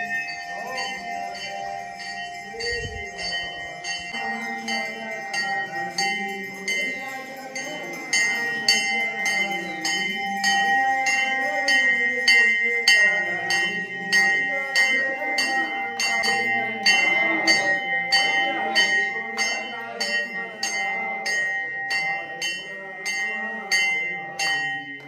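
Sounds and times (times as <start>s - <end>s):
temple bells ringing: 0.0s - 25.0s
voices singing: 0.0s - 25.0s.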